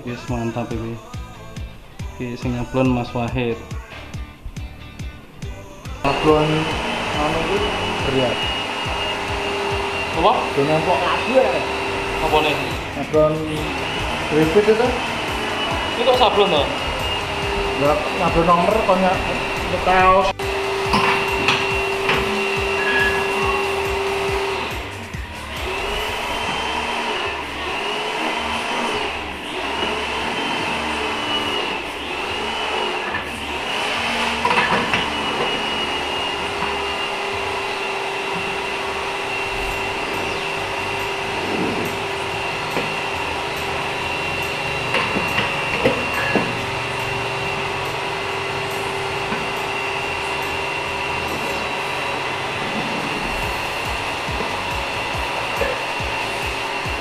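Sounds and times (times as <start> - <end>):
hot-air blower whining: 0.0 - 57.0.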